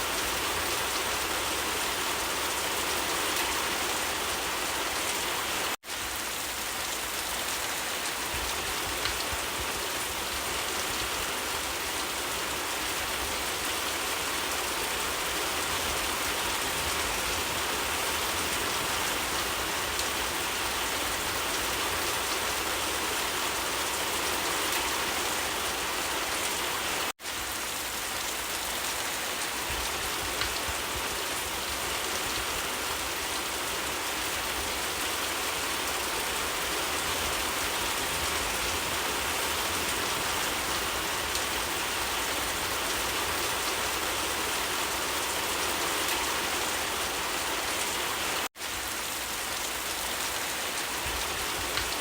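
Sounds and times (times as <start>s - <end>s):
steady rain pattering: 0.0s - 52.0s.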